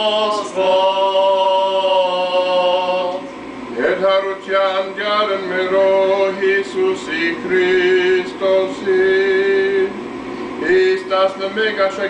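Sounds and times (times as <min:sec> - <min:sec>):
man chanting a prayer: 0:00.0 - 0:03.2, 0:03.8 - 0:09.9, 0:10.6 - 0:12.0.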